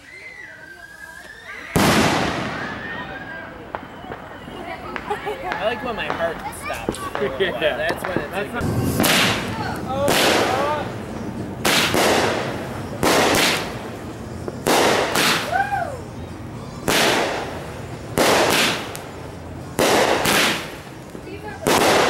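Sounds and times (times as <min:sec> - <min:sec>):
firework hissing crackle: 0:00.0 - 0:22.0
firework bangs: 0:01.3 - 0:15.9, 0:16.8 - 0:22.0.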